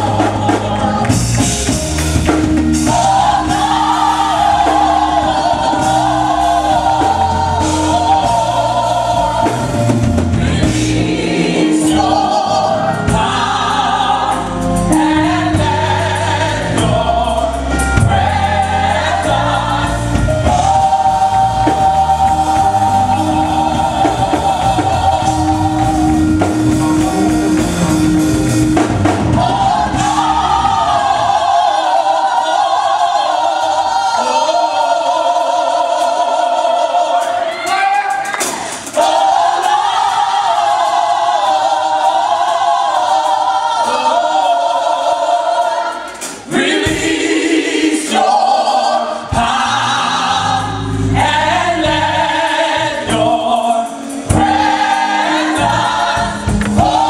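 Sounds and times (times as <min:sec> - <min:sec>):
bass and drum accompaniment: 0:00.0 - 0:57.0
choir singing gospel: 0:00.0 - 0:57.0.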